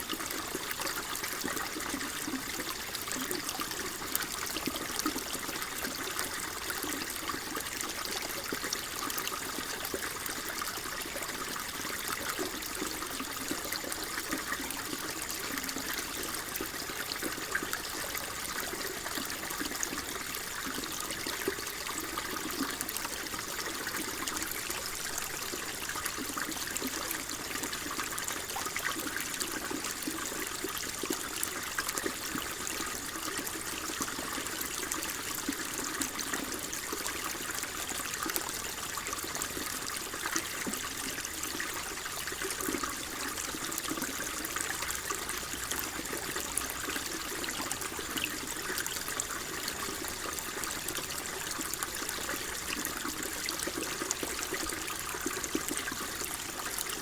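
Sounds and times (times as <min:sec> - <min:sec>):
water babbling and trickling: 0:00.0 - 0:57.0.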